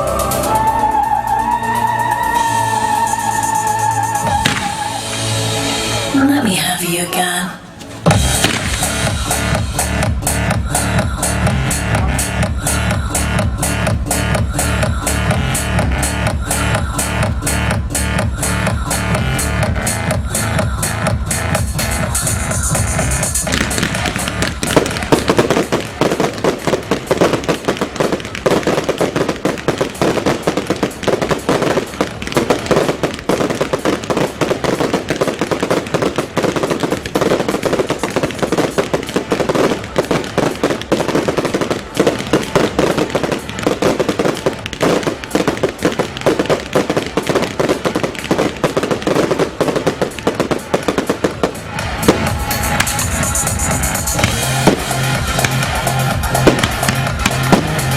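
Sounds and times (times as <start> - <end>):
fireworks crackling: 0.0 - 57.9.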